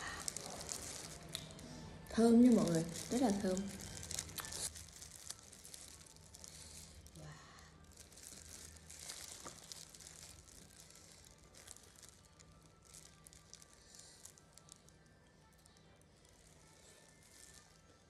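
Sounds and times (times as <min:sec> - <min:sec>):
thin plastic gloves crinkling: 0:00.0 - 0:18.0.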